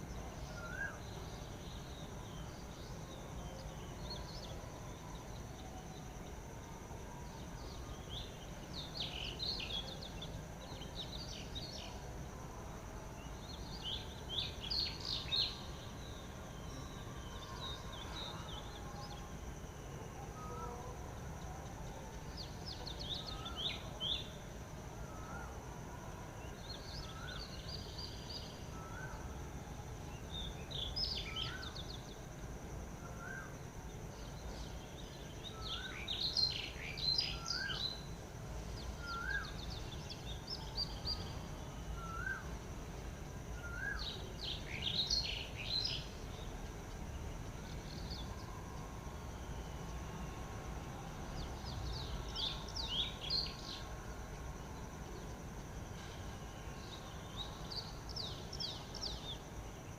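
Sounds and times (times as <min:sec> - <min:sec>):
insect drone: 0:00.0 - 0:59.9.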